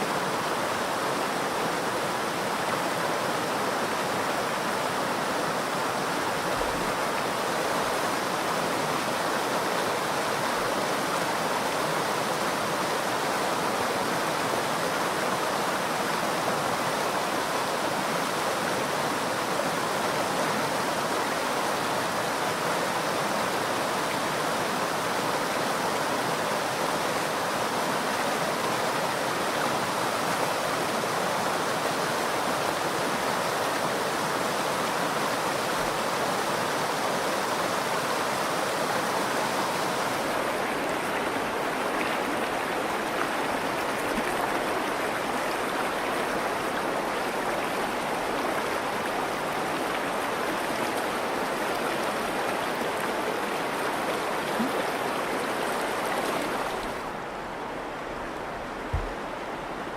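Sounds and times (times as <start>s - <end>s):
water flowing over rocks: 0.0s - 59.9s.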